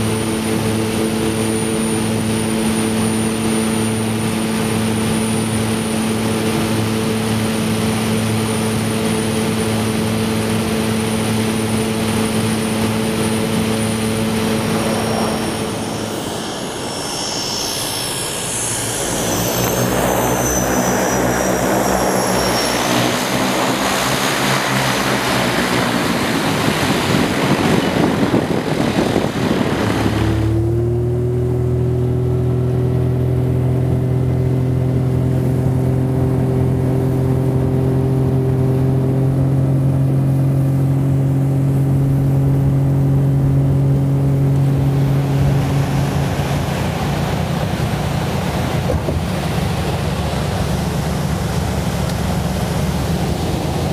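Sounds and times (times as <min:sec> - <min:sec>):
propeller plane engine droning: 0:00.0 - 0:53.9.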